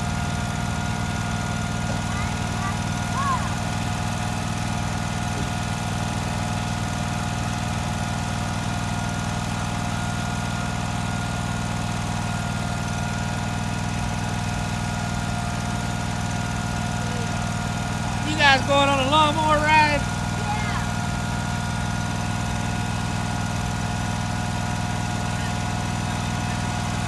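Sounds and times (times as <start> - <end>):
riding lawn mower engine: 0.0 - 27.0.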